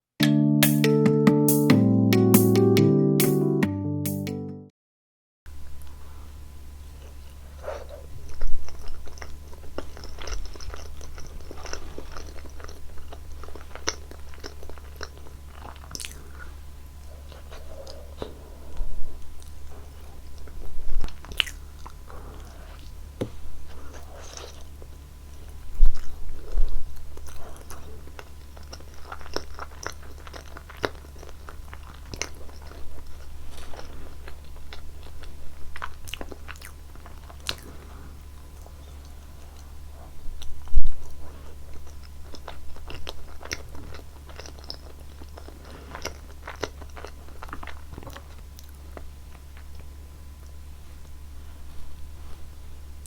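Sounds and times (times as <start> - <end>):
close-up chewing and biting: 7.0 - 52.5.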